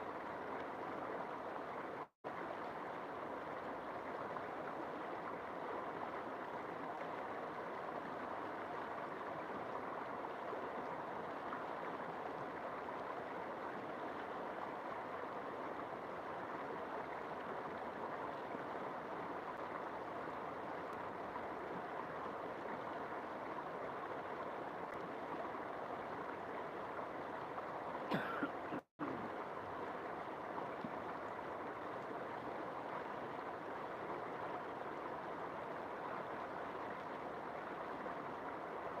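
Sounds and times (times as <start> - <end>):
river water flowing: 0.0 - 39.0.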